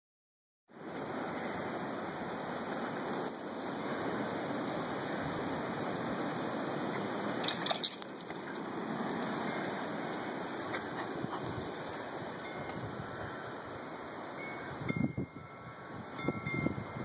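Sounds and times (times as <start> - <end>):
wind rushing on microphone: 0.8 - 17.0.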